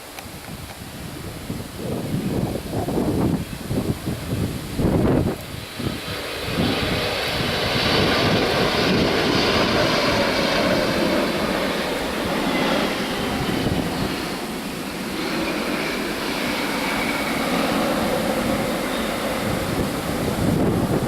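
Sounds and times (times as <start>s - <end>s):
wind buffeting microphone: 0.2s - 21.0s
jet engines roaring: 0.8s - 21.0s.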